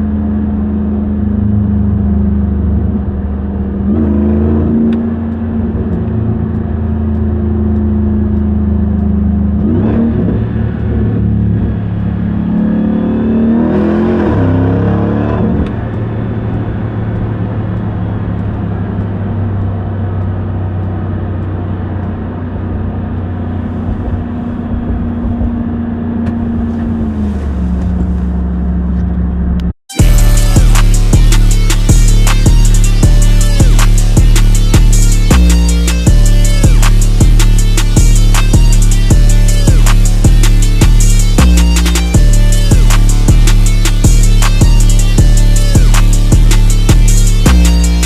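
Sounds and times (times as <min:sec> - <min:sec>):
pickup truck engine accelerating: 0:00.0 - 0:48.0.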